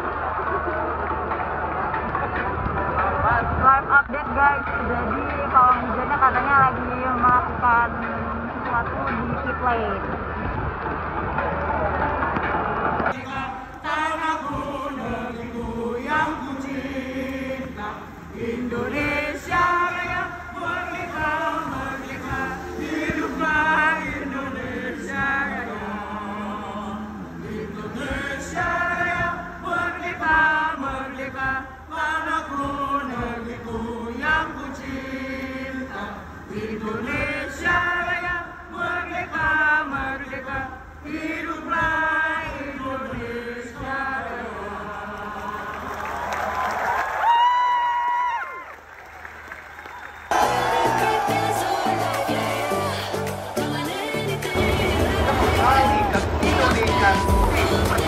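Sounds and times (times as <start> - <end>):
crowd singing together: 0.0 - 9.4, 10.3 - 46.8, 50.3 - 58.0.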